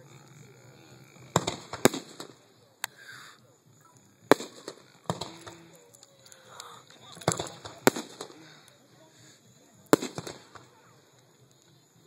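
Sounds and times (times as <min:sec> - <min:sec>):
fireworks bursting: 0:01.1 - 0:12.0.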